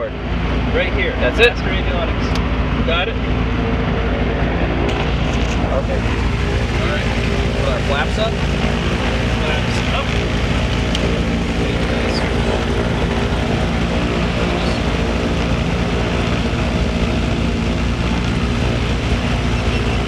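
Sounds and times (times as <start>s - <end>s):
aircraft engines droning: 0.0s - 20.0s.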